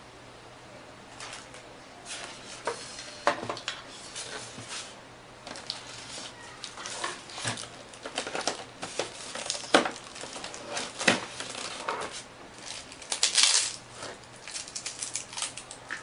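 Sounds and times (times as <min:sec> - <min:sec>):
plastic rustling: 0:01.1 - 0:16.0.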